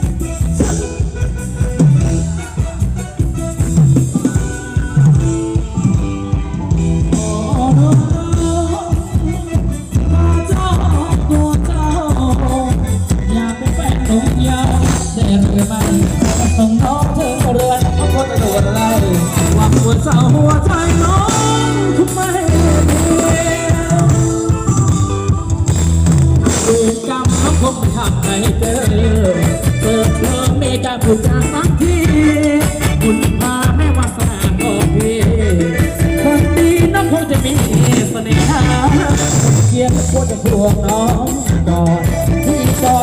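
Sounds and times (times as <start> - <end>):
live band dance music: 0.0 - 43.0
person singing: 4.0 - 43.0.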